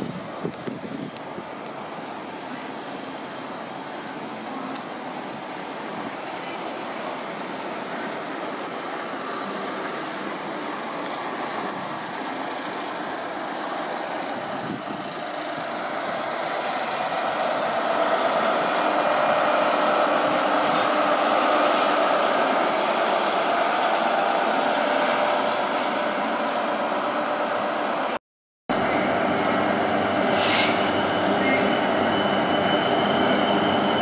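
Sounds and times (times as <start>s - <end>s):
train coaches on track: 0.0s - 34.0s
train diesel engine: 0.0s - 34.0s.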